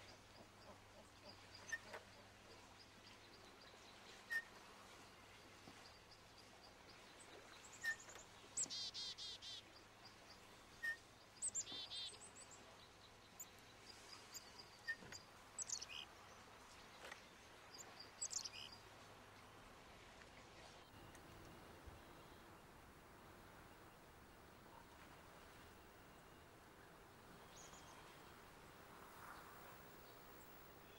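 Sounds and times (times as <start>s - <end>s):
low steady hiss: 0.0s - 30.9s.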